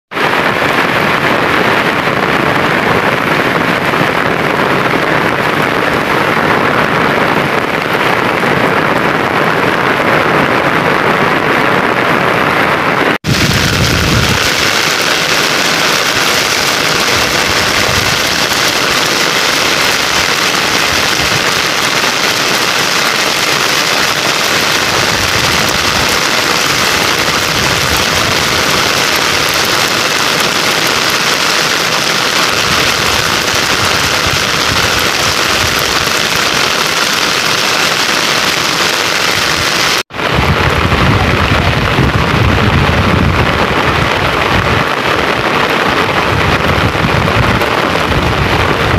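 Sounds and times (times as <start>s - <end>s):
heavy rain hissing: 0.1s - 48.9s.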